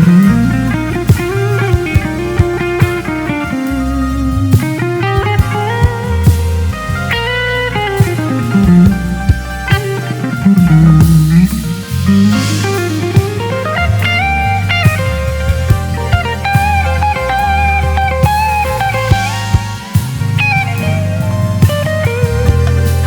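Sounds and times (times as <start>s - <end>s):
drums keeping time: 0.0s - 23.0s
held notes on keys: 0.0s - 23.0s
sliding electric bass line: 0.0s - 23.0s.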